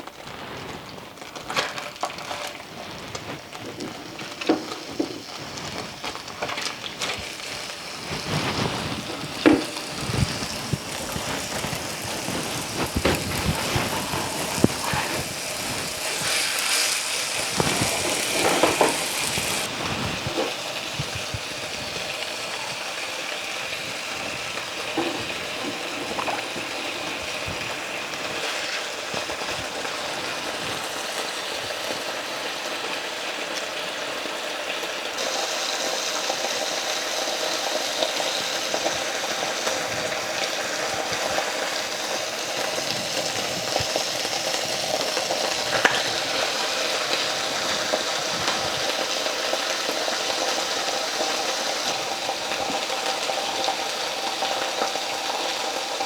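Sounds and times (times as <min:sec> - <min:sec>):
pork chops sizzling in oil: 0:00.0 - 0:56.0.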